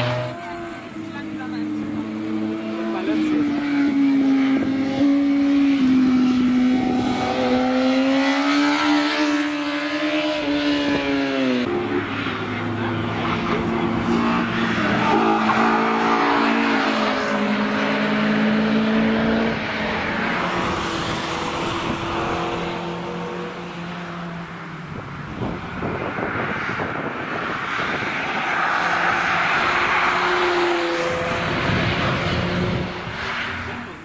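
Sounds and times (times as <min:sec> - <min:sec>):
motorcycle engine revving: 0:00.0 - 0:28.4
car engine at high revs: 0:00.0 - 0:34.0.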